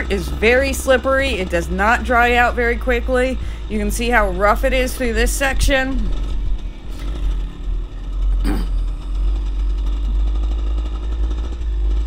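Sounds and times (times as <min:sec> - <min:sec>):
dirt bike engine running: 0:00.0 - 0:12.0
wind rumble: 0:00.0 - 0:12.0.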